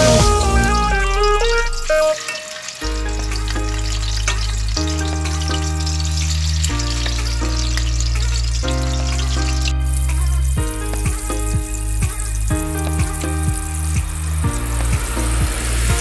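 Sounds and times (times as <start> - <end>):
music of long held chords: 0.0 - 16.0
chicken sizzling in oil: 1.5 - 16.0.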